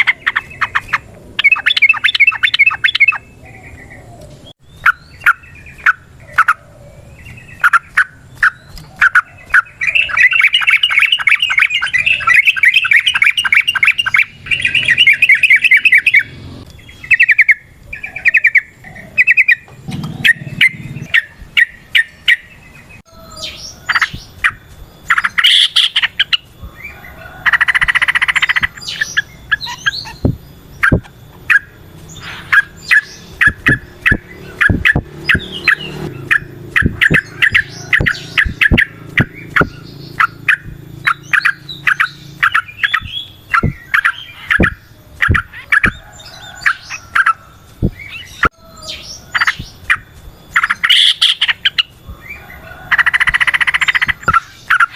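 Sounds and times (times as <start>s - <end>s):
bird chirping: 0.0s - 54.9s
bird trill: 0.0s - 54.9s
harsh buzzy bird call: 0.0s - 54.9s.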